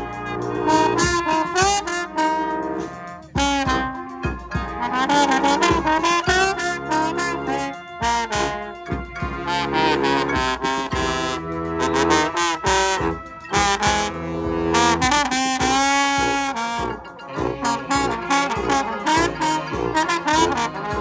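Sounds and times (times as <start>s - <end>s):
brass band playing: 0.0s - 21.0s
horn holding wavering note: 0.0s - 21.0s.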